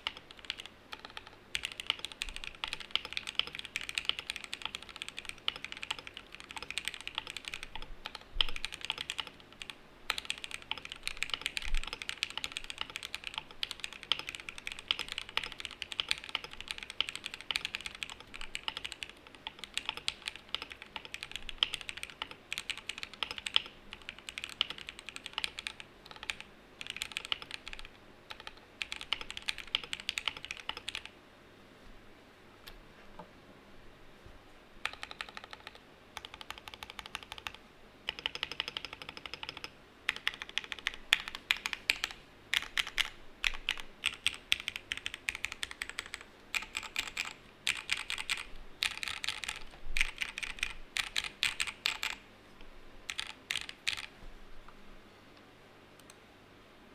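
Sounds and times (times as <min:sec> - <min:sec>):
mechanical keyboard typing: 0:00.0 - 0:31.1, 0:34.8 - 0:52.2, 0:53.1 - 0:54.1.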